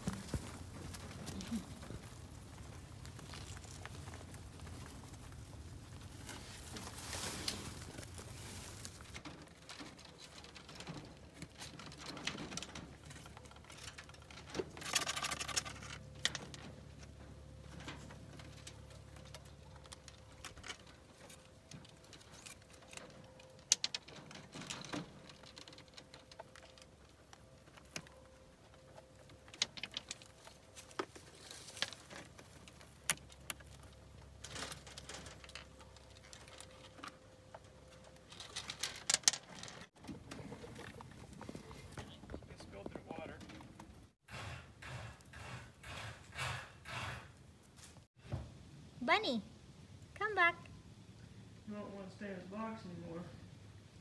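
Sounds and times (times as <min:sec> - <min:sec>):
rustle: 0:00.0 - 0:42.6, 0:43.4 - 0:54.0
rabbits shuffling on wire mesh: 0:00.0 - 0:44.1.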